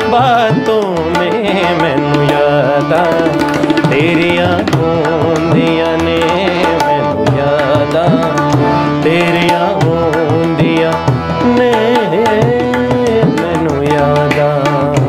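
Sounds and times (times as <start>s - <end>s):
harmonium chords: 0.0s - 15.0s
tabla strokes: 0.0s - 15.0s
wordless singing: 0.0s - 15.0s.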